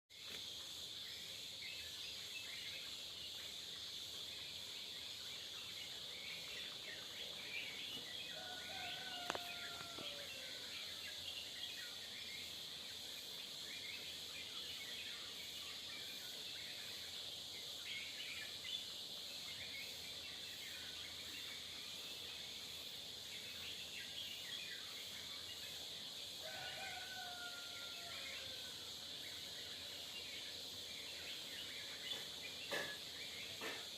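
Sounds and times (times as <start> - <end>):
high insect drone: 0.1 - 33.9
small birds chirping: 0.1 - 33.9.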